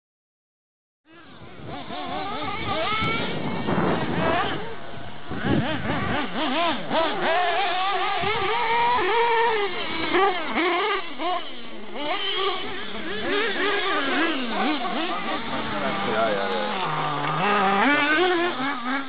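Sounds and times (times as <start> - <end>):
small nitro engine revving: 1.1 - 19.0.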